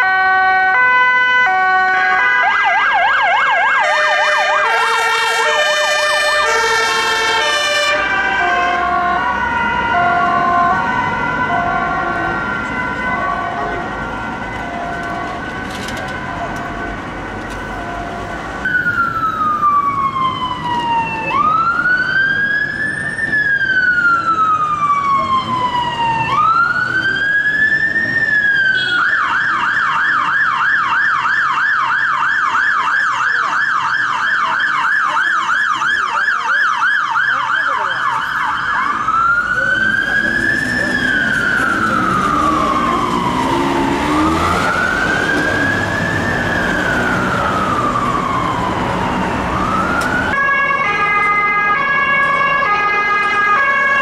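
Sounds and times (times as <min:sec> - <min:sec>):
ambulance siren wailing: 0:00.0 - 0:54.0
traffic: 0:00.0 - 0:54.0.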